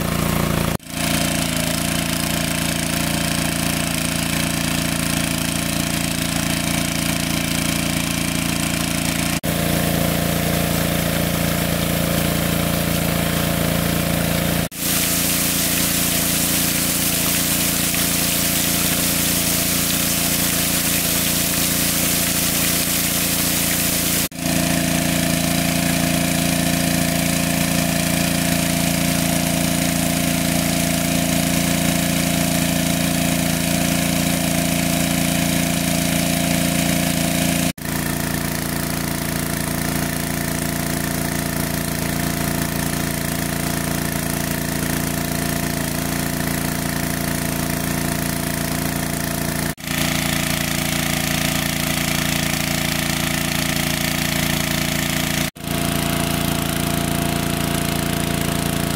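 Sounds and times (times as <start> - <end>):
water pump engine running: 0.0 - 58.9.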